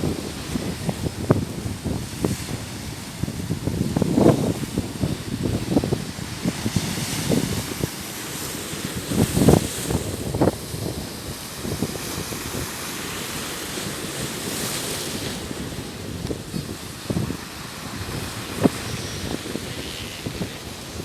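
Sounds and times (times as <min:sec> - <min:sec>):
sea waves washing on shore: 0:00.0 - 0:21.0
wind buffeting microphone: 0:00.0 - 0:21.0.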